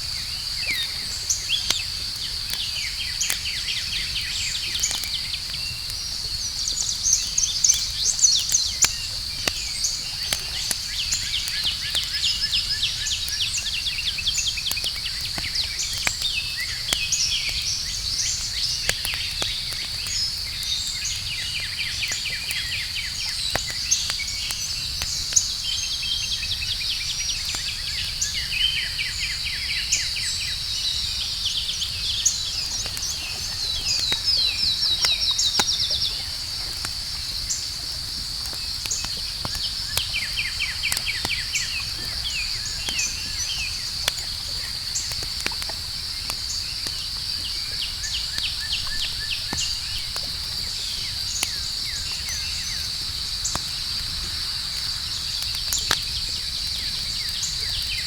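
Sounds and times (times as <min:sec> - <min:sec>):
campfire crackling and popping: 0:00.0 - 0:58.0
cricket trill: 0:00.0 - 0:58.0.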